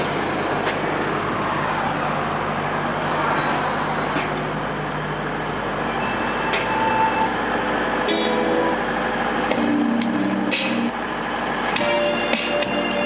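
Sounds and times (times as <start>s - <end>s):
engine running: 0.0s - 13.0s
road rumble: 0.0s - 13.0s.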